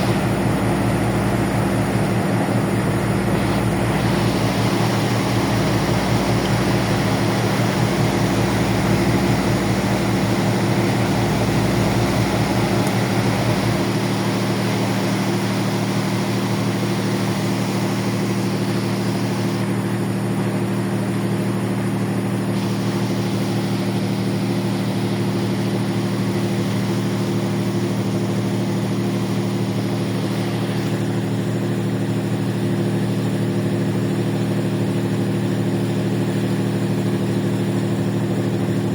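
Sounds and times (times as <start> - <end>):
ferry engines droning: 0.0 - 38.9.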